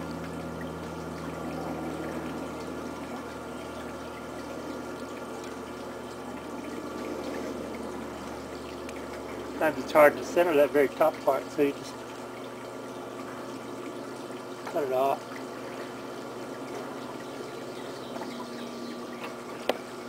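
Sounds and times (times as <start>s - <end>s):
potter's wheel humming: 0.0s - 20.0s.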